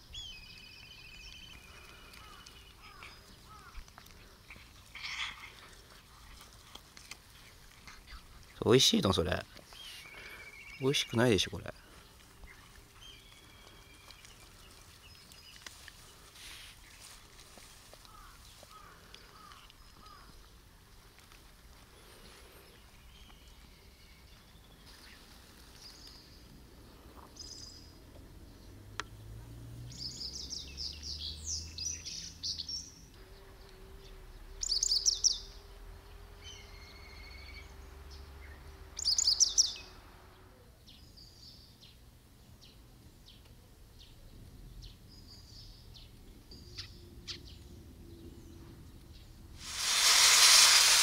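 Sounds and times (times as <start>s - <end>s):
songbird chirping and trilling: 0.0s - 21.1s, 22.0s - 49.4s.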